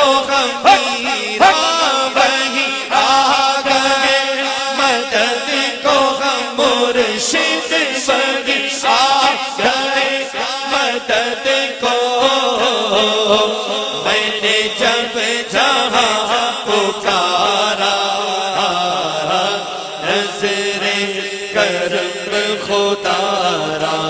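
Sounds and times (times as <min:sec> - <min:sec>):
man chanting devotional song: 0:00.0 - 0:24.0.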